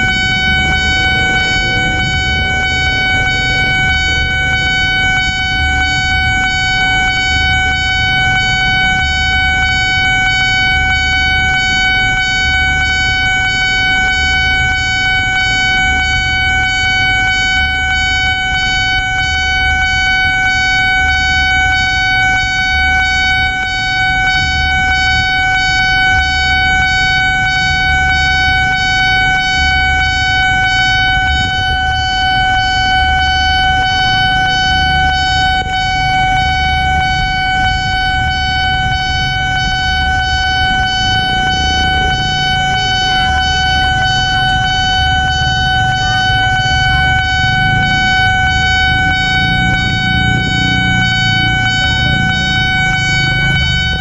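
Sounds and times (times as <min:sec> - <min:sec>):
level crossing alarm tone: 0:00.0 - 0:54.0
low repeating pulse: 0:00.0 - 0:54.0.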